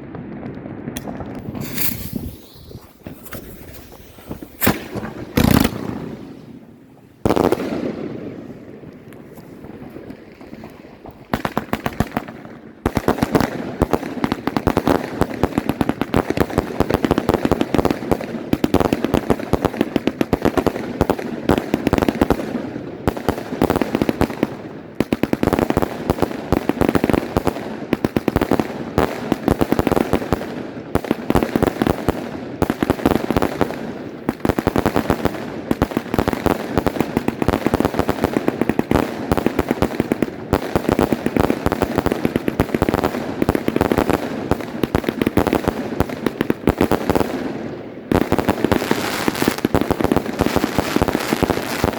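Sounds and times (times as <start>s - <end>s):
firework battery firing shots: 0.0s - 8.4s, 11.3s - 51.9s.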